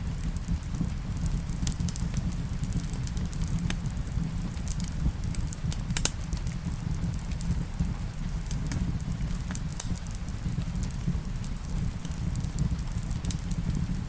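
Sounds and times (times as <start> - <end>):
rain: 0.0 - 14.0
wood fire crackling and popping: 0.0 - 14.0.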